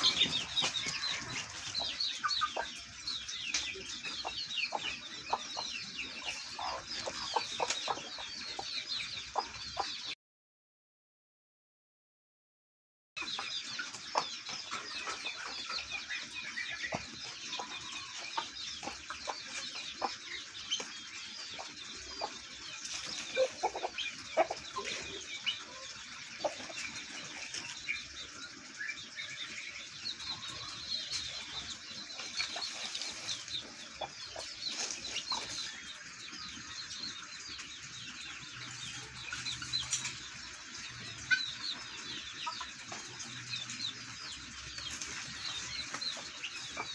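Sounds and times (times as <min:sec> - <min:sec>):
fowl chirping and clucking: 0:00.0 - 0:10.2, 0:13.2 - 0:46.9.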